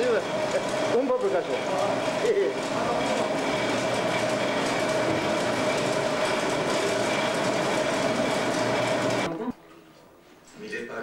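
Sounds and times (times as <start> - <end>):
stone mill grinding grain: 0.0 - 9.3.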